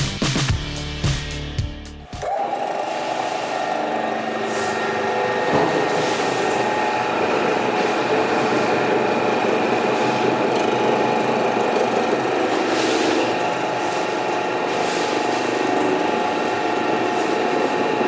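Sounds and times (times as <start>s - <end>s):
sharpening machine humming: 0.0s - 18.0s.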